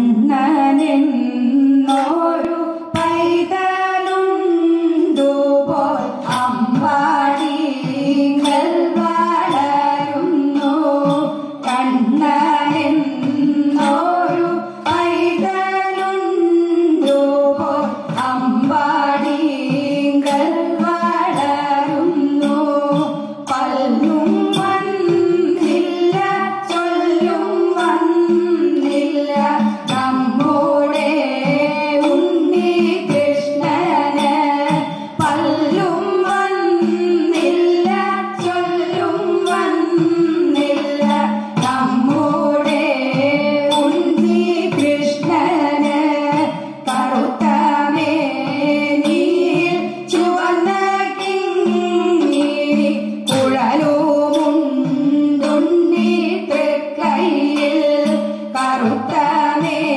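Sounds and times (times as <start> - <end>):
instrumental accompaniment: 0.0 - 59.9
woman singing: 0.0 - 59.9.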